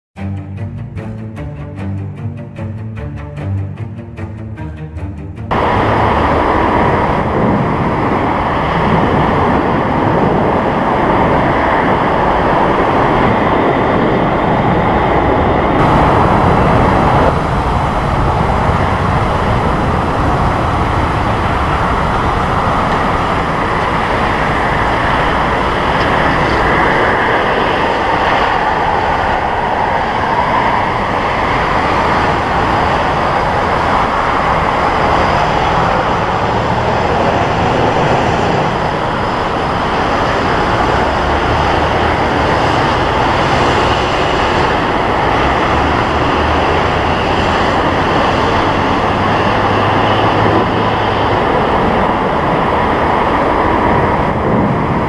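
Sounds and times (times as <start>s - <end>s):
jet engines roaring: 5.5s - 55.0s.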